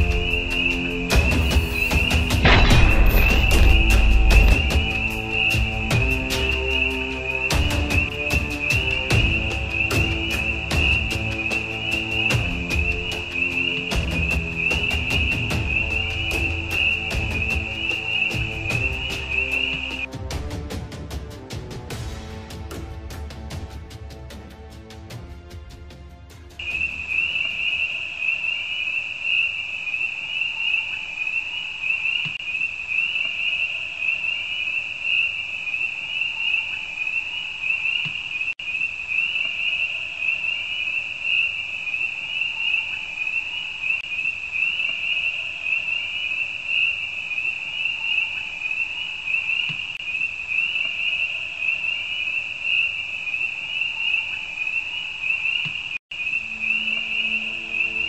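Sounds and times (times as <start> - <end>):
night creatures trilling: 0.0 - 20.1, 26.6 - 58.0.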